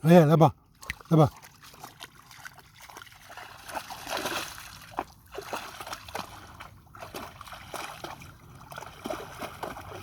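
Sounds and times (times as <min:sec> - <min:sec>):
dog splashing in water: 0:00.8 - 0:10.0.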